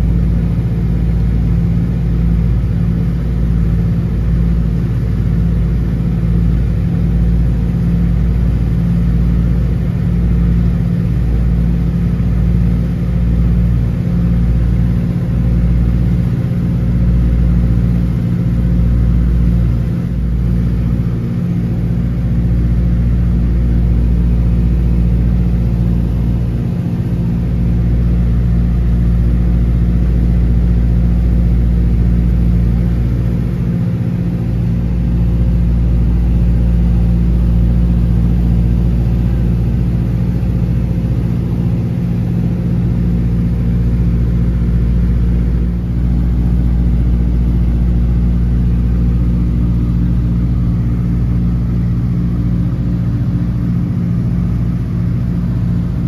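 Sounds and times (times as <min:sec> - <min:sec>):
airplane radial engines cruising: 0:00.0 - 0:56.0.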